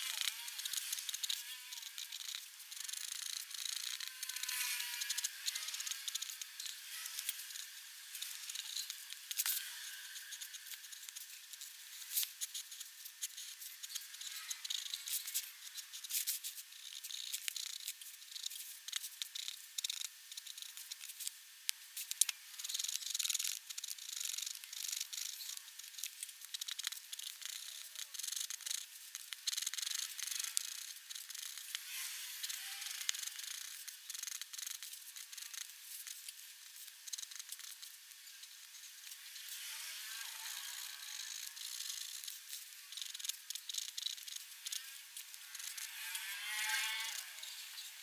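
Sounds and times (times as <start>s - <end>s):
pen nib scratching paper: 0.1s - 21.3s, 22.6s - 31.8s, 32.4s - 36.2s, 41.2s - 45.9s.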